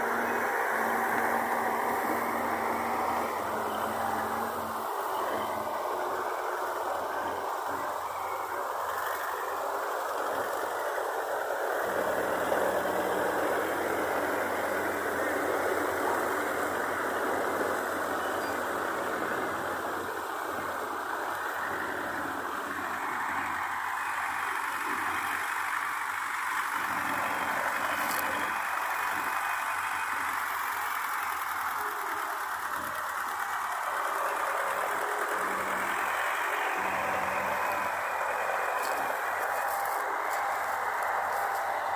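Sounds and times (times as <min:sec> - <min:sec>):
heavy machinery engine running: 0:00.0 - 0:41.9
low engine hum: 0:00.0 - 0:41.9.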